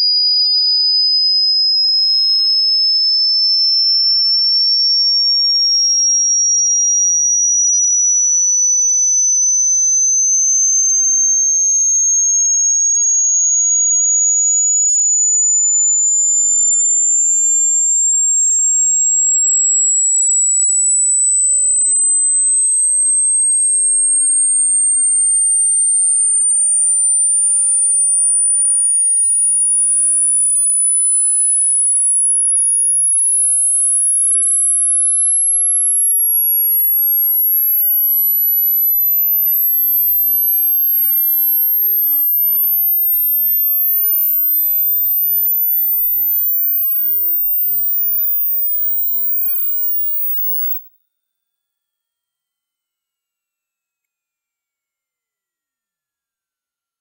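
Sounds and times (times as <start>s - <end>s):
sine tone sweeping upward: 0.0s - 50.9s.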